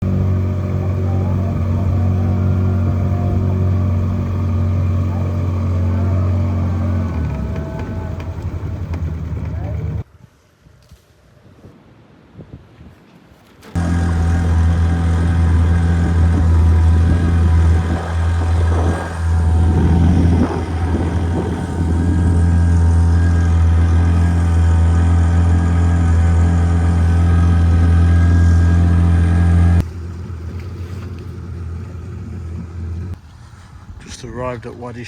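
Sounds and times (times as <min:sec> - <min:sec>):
motorboat engine running: 0:00.0 - 0:10.0, 0:13.7 - 0:34.9.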